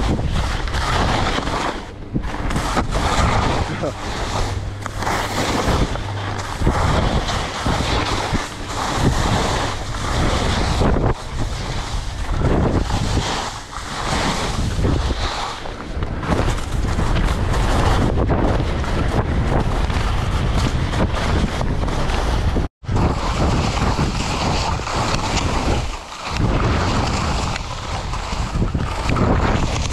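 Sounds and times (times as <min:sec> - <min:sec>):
skis scraping through snow: 0:00.0 - 0:18.2, 0:18.8 - 0:29.9
wind buffeting microphone: 0:00.0 - 0:29.9.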